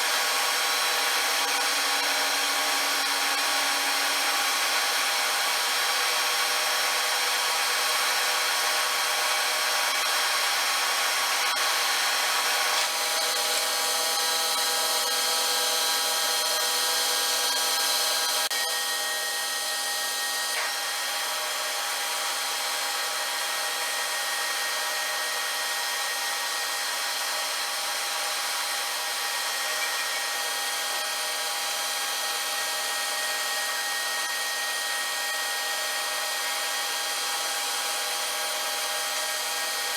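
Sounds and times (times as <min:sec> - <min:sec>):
metalworking machine cutting steel: 0:00.0 - 0:39.9.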